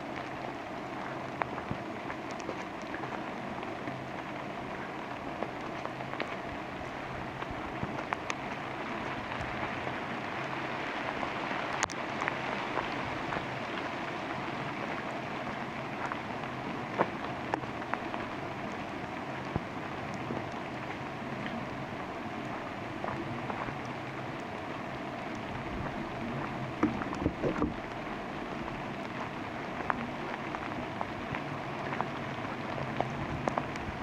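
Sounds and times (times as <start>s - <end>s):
rain falling in forest: 0.0s - 34.0s.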